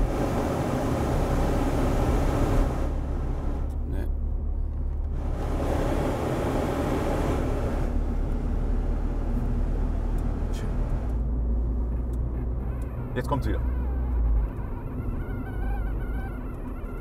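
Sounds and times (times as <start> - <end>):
road and drivetrain rumble: 0.0 - 17.0.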